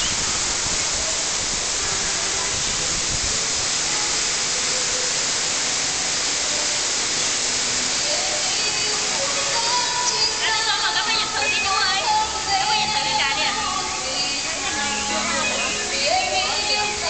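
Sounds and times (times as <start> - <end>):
steady rushing hiss: 0.0 - 17.0
faint music: 0.1 - 17.0.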